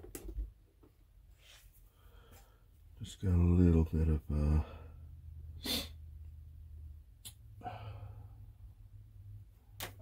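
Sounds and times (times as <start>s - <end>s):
steady low hum: 1.0s - 9.8s.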